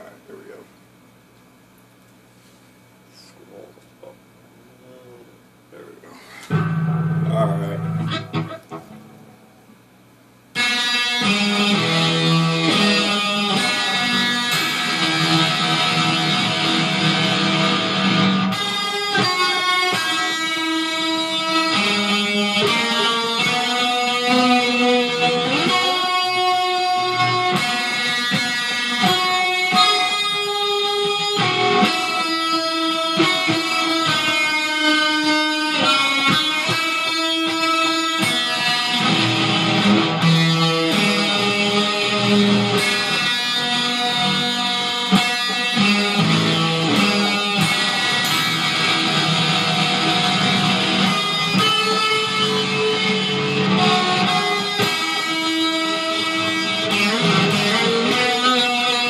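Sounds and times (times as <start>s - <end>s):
electric guitar strummed chords: 5.8s - 9.6s, 10.5s - 59.0s
electric guitar picked notes: 6.4s - 9.5s, 10.5s - 59.0s.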